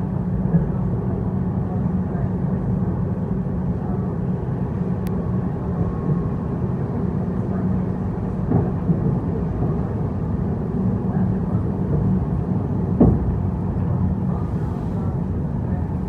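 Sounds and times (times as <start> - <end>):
train wheels rumbling on rails: 0.1 - 16.0.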